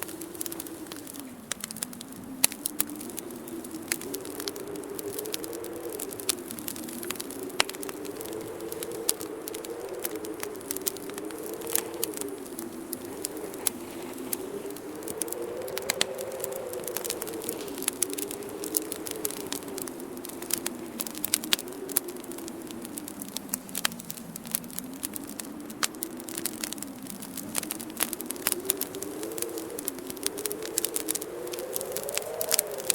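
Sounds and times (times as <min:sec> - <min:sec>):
low moaning wind: 0:00.0 - 0:32.9
wood fire crackling and popping: 0:00.0 - 0:32.9.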